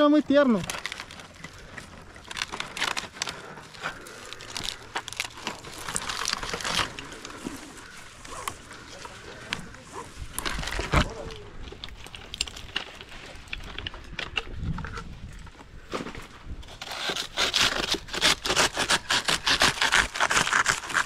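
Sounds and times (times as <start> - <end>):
dry palm fronds crackling: 0.0 - 21.0.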